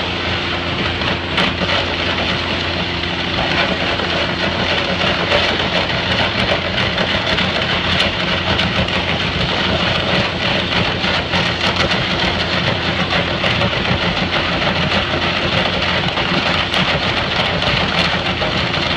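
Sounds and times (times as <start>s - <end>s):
waterjet blasting concrete: 0.0s - 18.9s.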